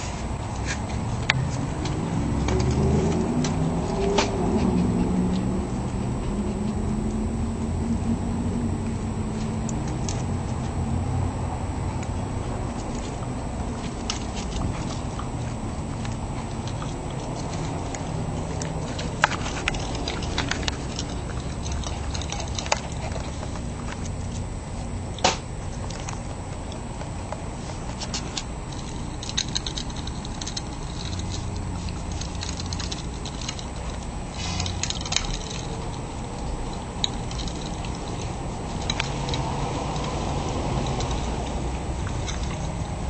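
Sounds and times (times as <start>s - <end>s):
dog eating from a bowl: 0.0s - 43.0s
low background noise: 0.0s - 43.0s.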